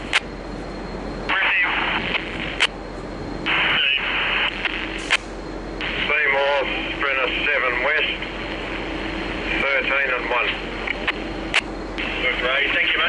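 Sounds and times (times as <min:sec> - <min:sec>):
radio static bursts: 0:01.2 - 0:02.7, 0:03.4 - 0:13.0
radio static hiss: 0:01.2 - 0:13.0.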